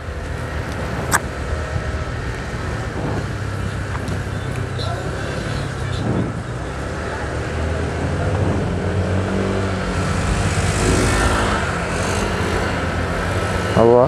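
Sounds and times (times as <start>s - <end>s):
wind noise on microphone: 0.0s - 13.7s.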